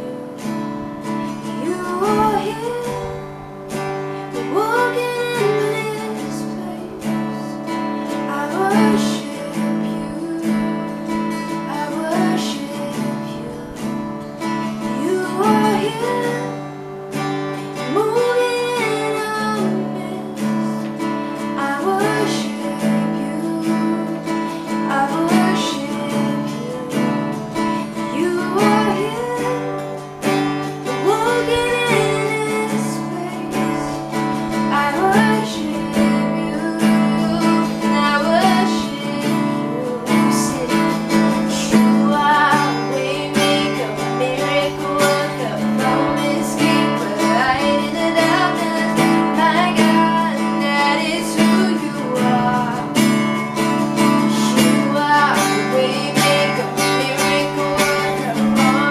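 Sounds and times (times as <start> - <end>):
person singing: 0.0 - 58.9
strummed acoustic guitar: 0.0 - 58.9.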